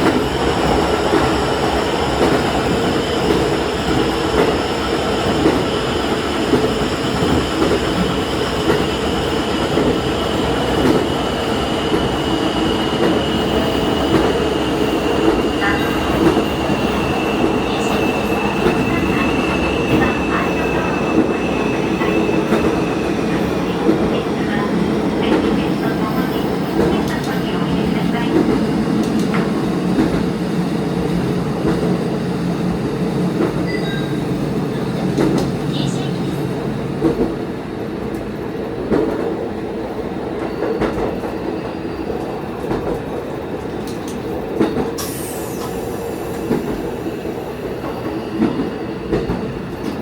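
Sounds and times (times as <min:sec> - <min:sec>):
railcar engine and wheels rumbling: 0:00.0 - 0:50.0.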